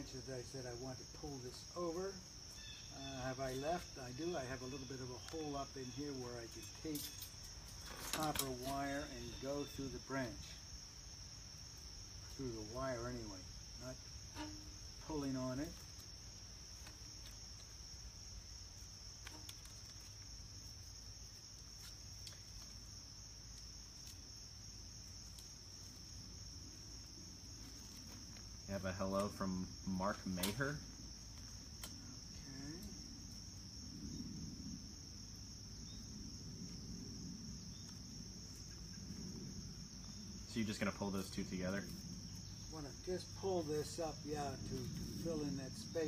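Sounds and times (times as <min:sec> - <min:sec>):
crickets chirring: 0:00.0 - 0:46.0
high-pitched insect chorus: 0:00.0 - 0:46.0.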